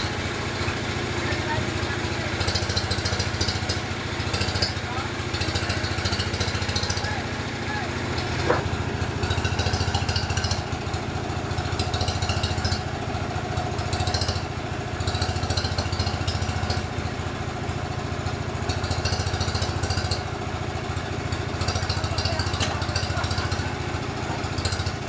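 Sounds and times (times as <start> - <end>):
sawmill engine drone: 0.0 - 25.0.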